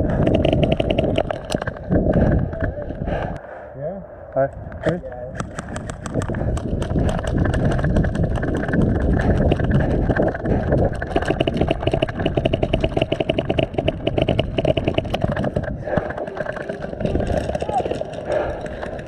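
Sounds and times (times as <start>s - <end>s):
rapid rattling clicks: 0.0s - 2.7s, 5.4s - 19.0s
wind buffeting microphone: 0.0s - 19.0s.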